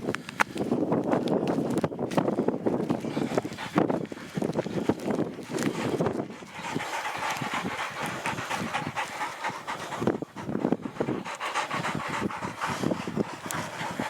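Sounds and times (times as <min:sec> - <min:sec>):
dog panting: 0:02.7 - 0:14.0.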